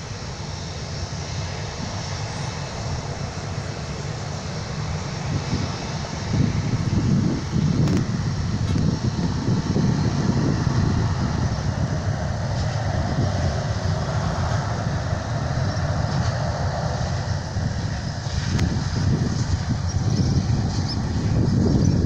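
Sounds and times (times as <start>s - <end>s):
jet engines rumbling at takeoff: 0.0s - 22.0s.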